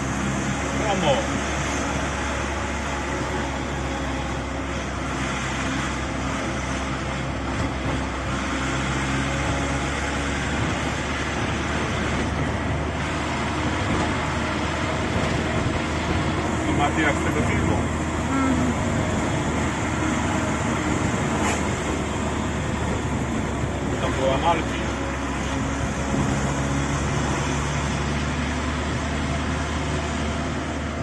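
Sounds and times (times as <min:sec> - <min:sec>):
road noise: 0:00.0 - 0:31.0
vehicle engine hum: 0:00.0 - 0:31.0.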